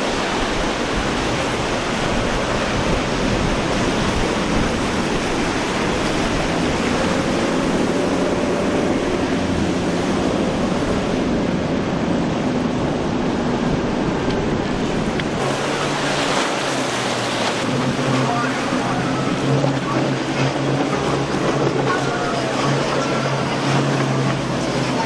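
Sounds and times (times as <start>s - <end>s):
outboard motors droning: 0.0s - 25.0s
surf and wake water: 0.0s - 25.0s.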